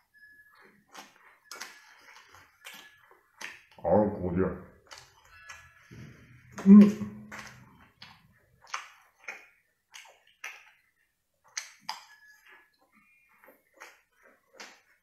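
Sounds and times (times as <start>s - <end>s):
crunchy chewing: 0.4s - 3.8s, 4.8s - 15.0s.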